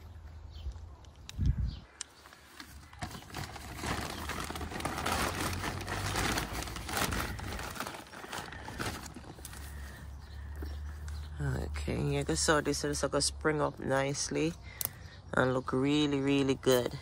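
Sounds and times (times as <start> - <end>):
compost crackling rustle: 0.0 - 15.0.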